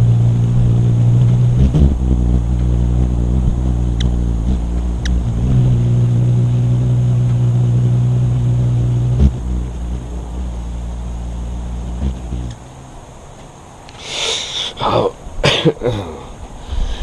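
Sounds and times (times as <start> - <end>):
car engine and road noise: 0.0 - 15.4.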